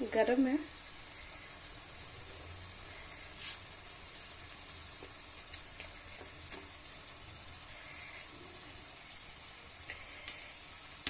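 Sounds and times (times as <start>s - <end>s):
crepe sizzling in oil: 0.0s - 11.0s.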